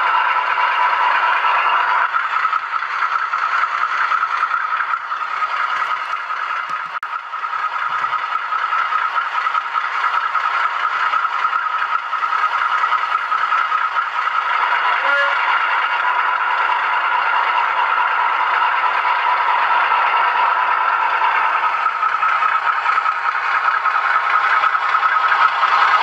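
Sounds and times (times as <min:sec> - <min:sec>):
model train wheels and motor rattling: 0:00.0 - 0:26.0.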